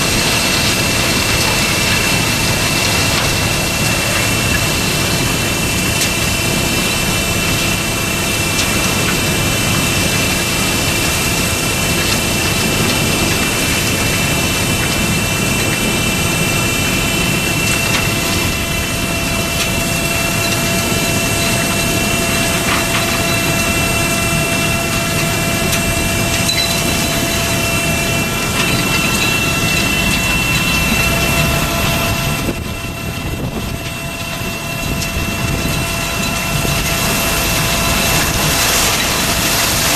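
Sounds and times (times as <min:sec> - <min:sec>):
high machine whine: 0:00.0 - 0:39.9
machine rumble: 0:00.0 - 0:39.9.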